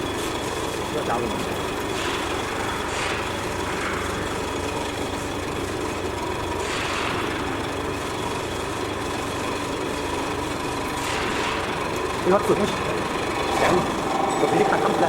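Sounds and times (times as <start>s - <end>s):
faint machine whine: 0.0s - 15.0s
machine running: 0.0s - 15.0s.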